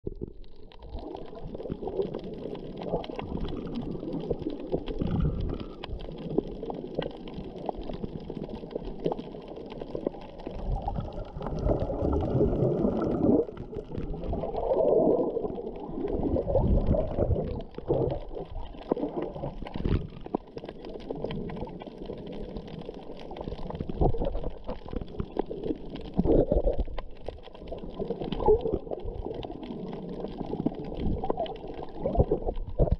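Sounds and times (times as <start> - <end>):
underwater sloshing and gurgling: 0.0 - 32.9.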